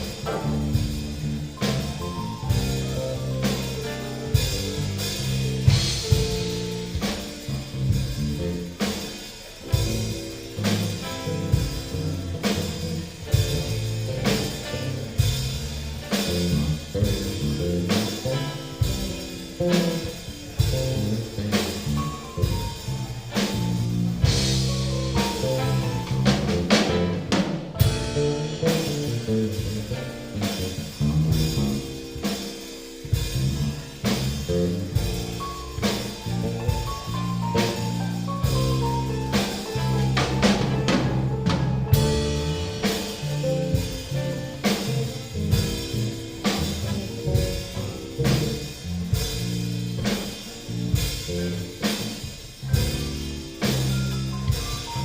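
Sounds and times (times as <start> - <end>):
bass guitar: 0.0 - 55.0
drum kit beat: 0.0 - 55.0.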